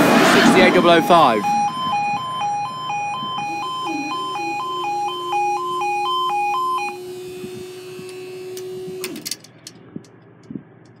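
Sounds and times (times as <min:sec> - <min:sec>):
two-tone alarm warbling: 0:00.0 - 0:09.1
barrier machinery hum: 0:00.0 - 0:11.0.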